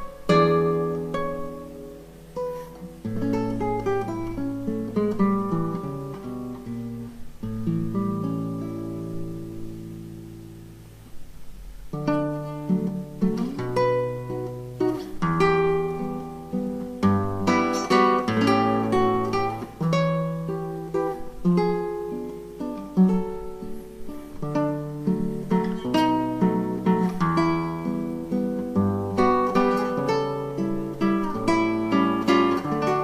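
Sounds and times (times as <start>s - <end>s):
acoustic guitar music: 0.0s - 33.0s.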